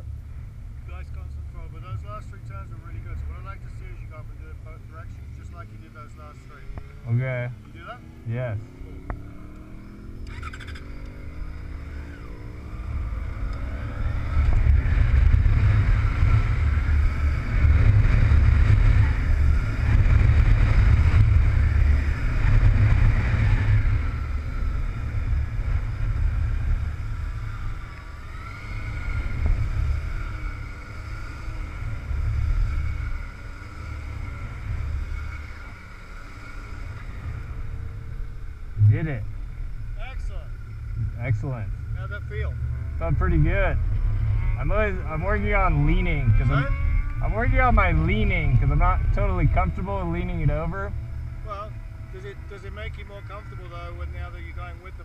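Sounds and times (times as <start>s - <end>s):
motorcycle engine running: 2.3s - 55.0s
wind rumble on microphone: 8.2s - 35.9s, 36.8s - 40.0s, 40.6s - 55.0s.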